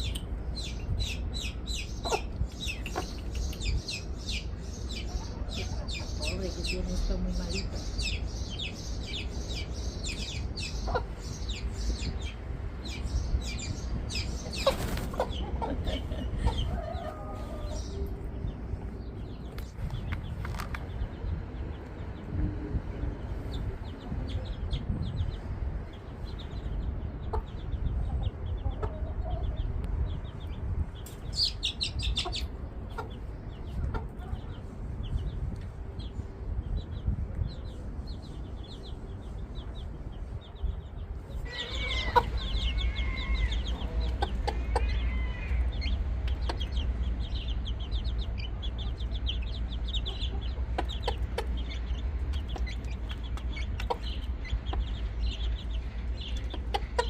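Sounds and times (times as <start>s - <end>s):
chickens clucking: 0.0s - 24.9s, 25.7s - 35.7s, 40.3s - 57.0s
low rumble: 0.0s - 57.0s.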